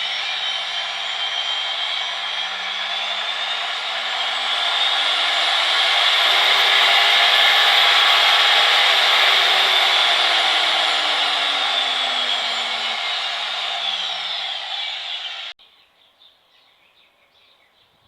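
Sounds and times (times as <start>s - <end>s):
drill press motor whirring: 0.0s - 15.6s.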